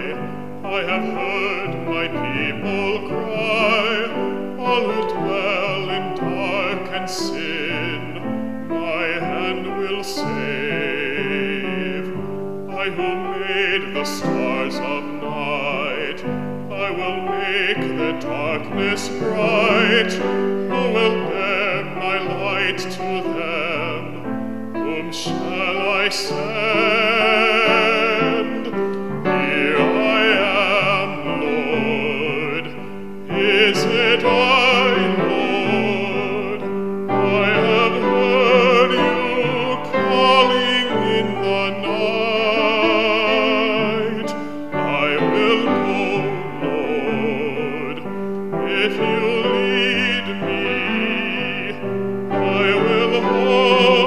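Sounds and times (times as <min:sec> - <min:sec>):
man singing classical style: 0:00.0 - 0:54.0
musical accompaniment: 0:00.0 - 0:54.0.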